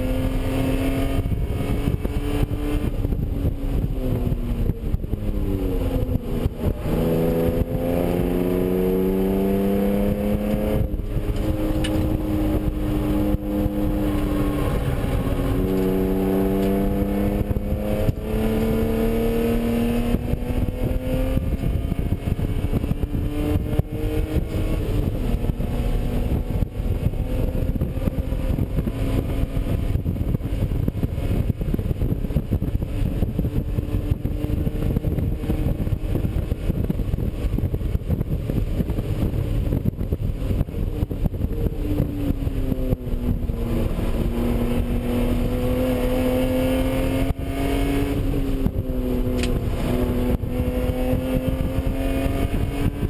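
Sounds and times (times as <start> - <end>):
car engine accelerating: 0.0 - 53.0
wind and road noise: 0.0 - 53.0.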